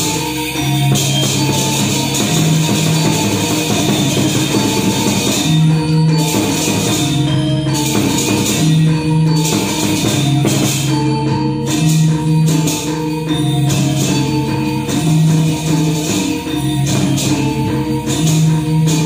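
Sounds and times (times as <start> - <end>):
low metallophone or gong notes: 0.0 - 19.0
small cymbals clashing fast: 0.0 - 19.0.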